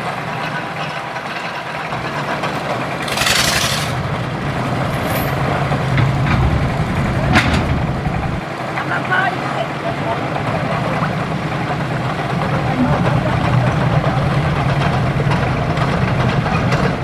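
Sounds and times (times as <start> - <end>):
ferry engine running: 0.0 - 17.0
propeller churning water: 0.0 - 17.0.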